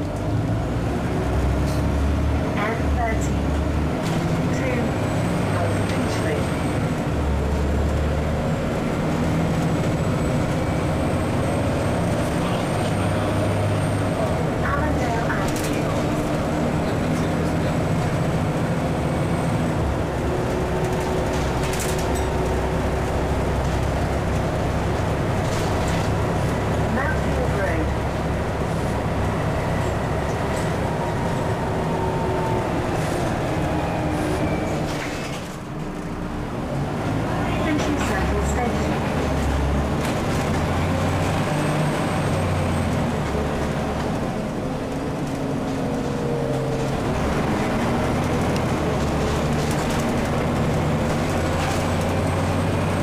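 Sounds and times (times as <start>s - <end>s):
bus engine humming: 0.0s - 53.0s
road noise: 0.0s - 53.0s.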